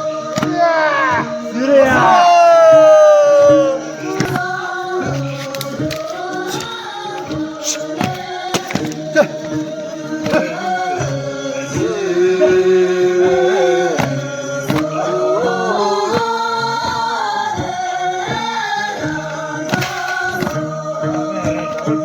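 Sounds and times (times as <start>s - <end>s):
person singing with music: 0.0s - 22.0s.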